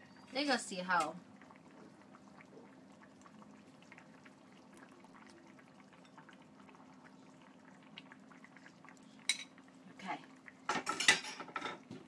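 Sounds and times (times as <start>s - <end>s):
faint low hum: 0.0s - 10.6s
stew bubbling in a pot: 0.0s - 12.0s.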